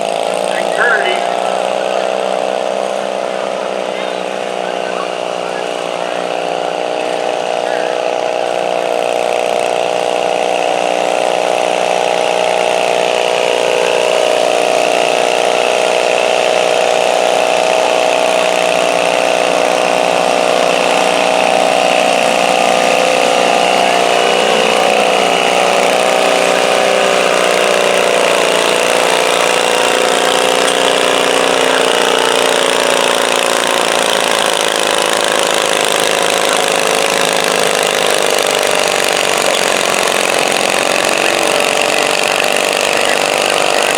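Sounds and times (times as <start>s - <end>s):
small engine running under load: 0.0s - 43.9s.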